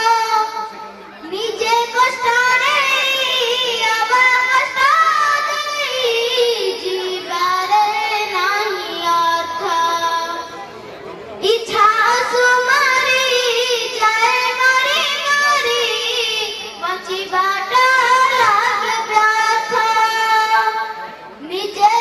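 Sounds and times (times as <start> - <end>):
girl singing into microphone: 0.0 - 10.5, 11.4 - 22.0.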